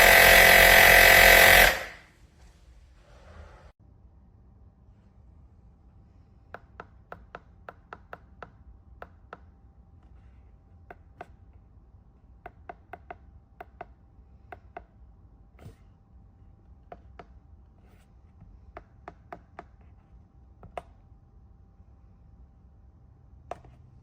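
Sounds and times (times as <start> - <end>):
faint low hum: 1.8 - 24.0.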